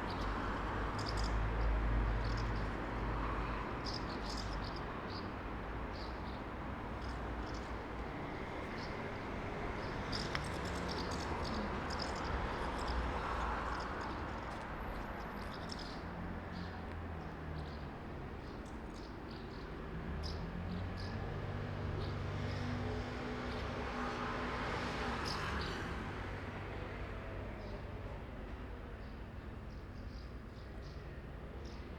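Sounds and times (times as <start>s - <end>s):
traffic rumble: 0.0s - 31.9s.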